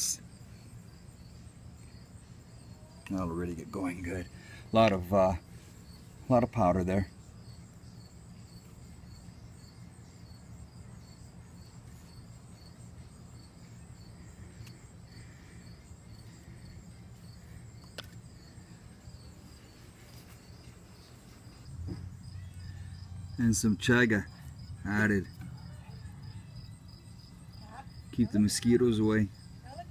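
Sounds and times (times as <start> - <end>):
crickets chirping: 0.0 - 29.9
low background hum: 0.0 - 29.9.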